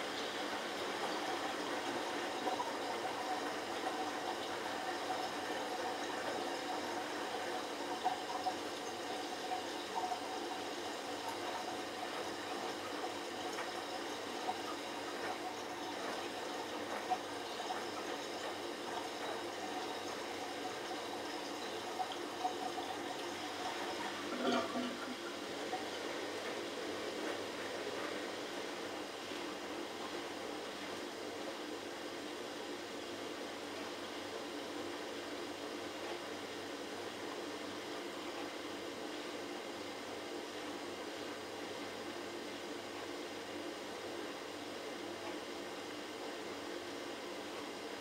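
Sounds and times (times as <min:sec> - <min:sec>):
washing machine drum water: 0:00.0 - 0:48.0.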